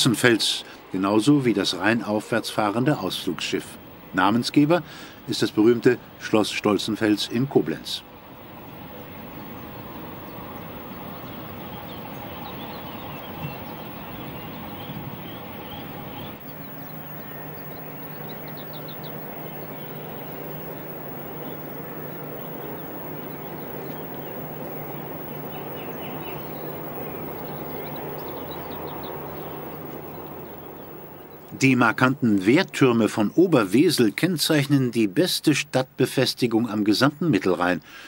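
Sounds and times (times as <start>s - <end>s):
train passing on track: 0.0s - 33.3s
birds chirping: 0.0s - 38.0s
steady outdoor rumble: 0.0s - 38.0s.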